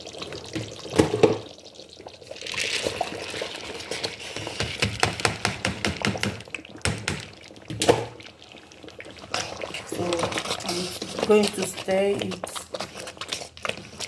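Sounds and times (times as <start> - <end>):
rice pouring into boiling liquid: 0.0 - 13.6.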